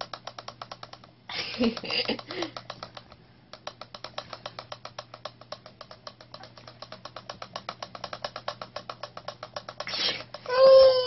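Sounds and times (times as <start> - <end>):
rapid mechanical clicking: 0.0 - 10.5.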